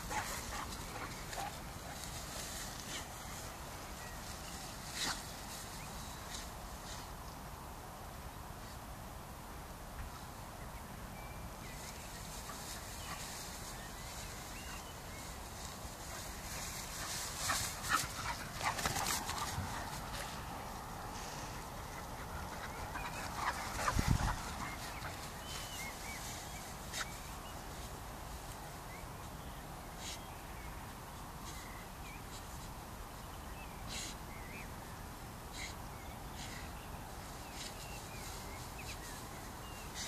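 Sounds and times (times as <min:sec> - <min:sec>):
birds chirping: 0:00.0 - 0:07.4, 0:10.1 - 0:40.0
outdoor hiss: 0:00.0 - 0:40.0.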